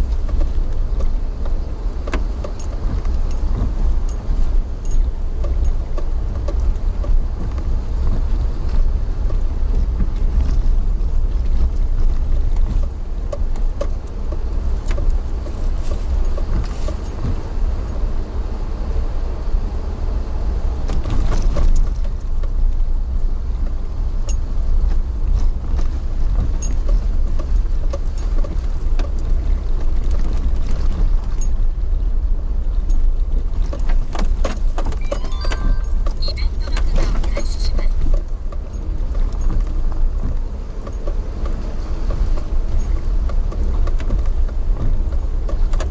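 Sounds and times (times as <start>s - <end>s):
light rattles and clicks: 0.0s - 18.1s, 20.8s - 45.9s
vehicle cabin rumble: 0.0s - 45.9s.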